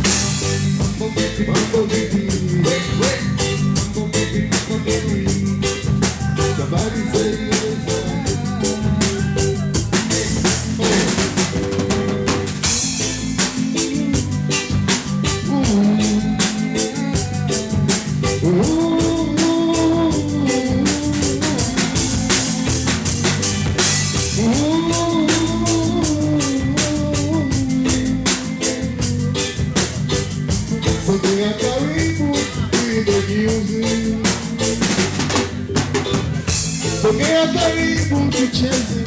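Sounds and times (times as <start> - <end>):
bass line: 0.0 - 39.0
held melodic line: 0.0 - 39.0
reggae music: 0.0 - 39.0.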